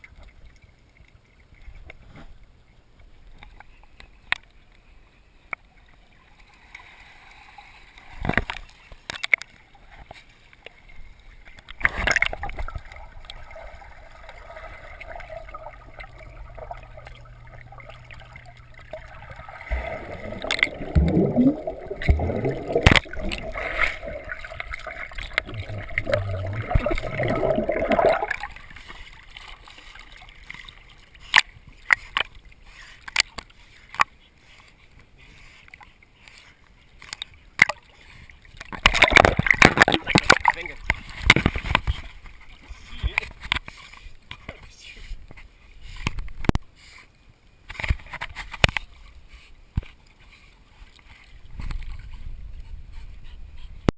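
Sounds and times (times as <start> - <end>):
water sloshing as dogs swim: 0.0 - 53.9.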